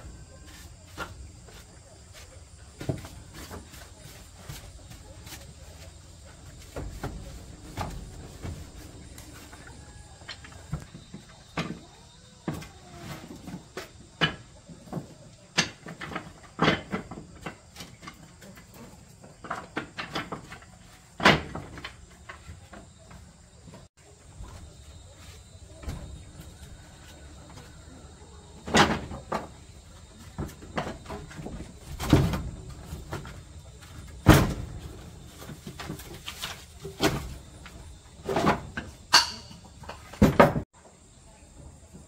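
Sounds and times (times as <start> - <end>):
objects knocking and clunking: 0.0 - 40.7.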